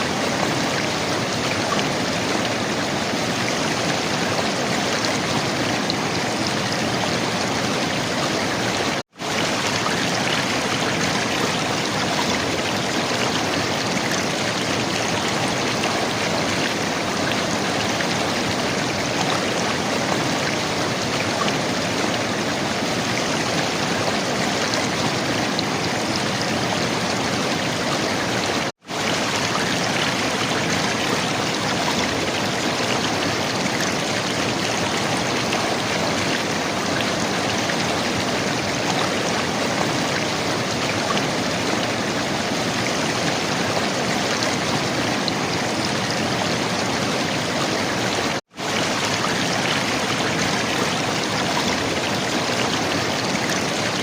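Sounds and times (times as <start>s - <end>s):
river water gurgling: 0.0s - 54.0s.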